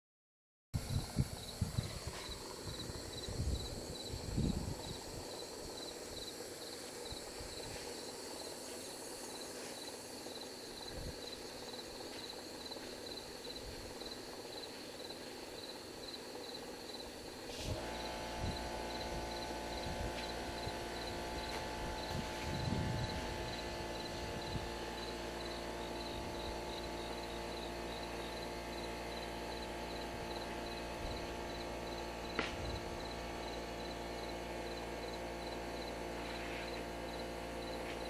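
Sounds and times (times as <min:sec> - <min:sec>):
cricket chirping: 0:00.8 - 0:38.0
steady multi-tone hum: 0:00.8 - 0:38.0.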